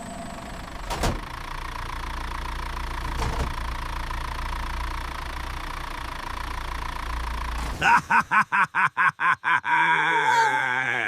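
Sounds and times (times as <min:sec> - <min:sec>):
truck engine idling: 0:00.0 - 0:09.0.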